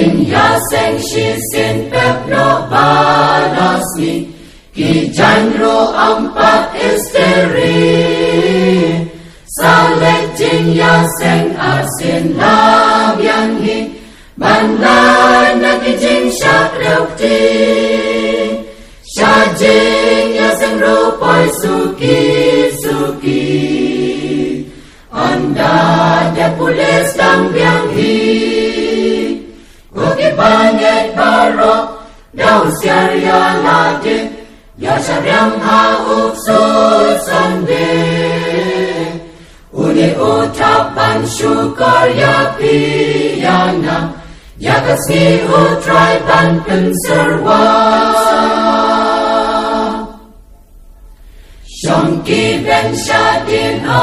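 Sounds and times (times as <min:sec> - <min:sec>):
group singing a hymn: 0:00.0 - 0:50.5, 0:51.2 - 0:54.0.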